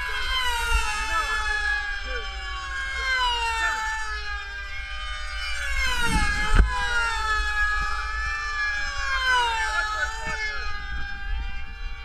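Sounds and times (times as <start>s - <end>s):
model plane engines whining: 0.0s - 12.0s.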